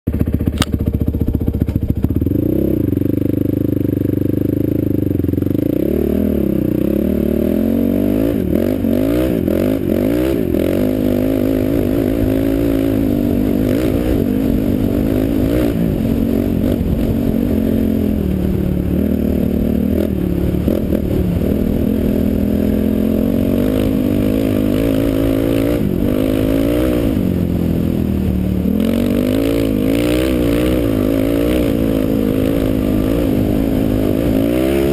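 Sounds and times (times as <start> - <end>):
quad engine revving: 0.1 - 34.9.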